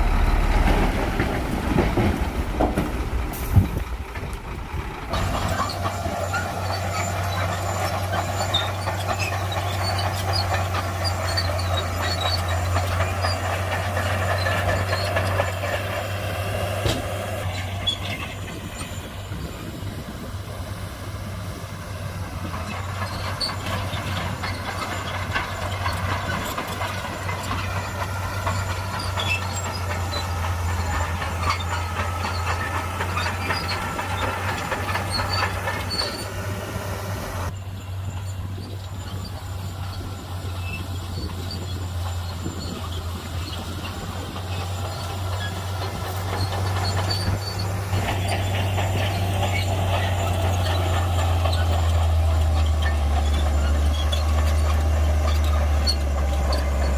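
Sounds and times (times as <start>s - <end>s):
bulldozer diesel engine drone: 0.0s - 56.9s
steel tracks squeaking and clanking: 0.0s - 56.9s.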